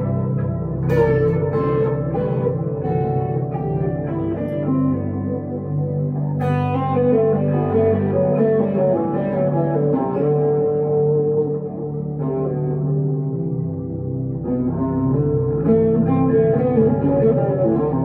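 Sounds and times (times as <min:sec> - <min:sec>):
electric guitar melody: 0:00.0 - 0:18.0.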